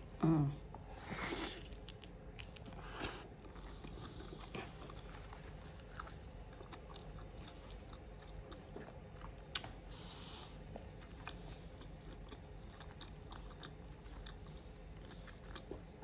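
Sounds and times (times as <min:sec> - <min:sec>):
person chewing food: 0:00.7 - 0:16.0.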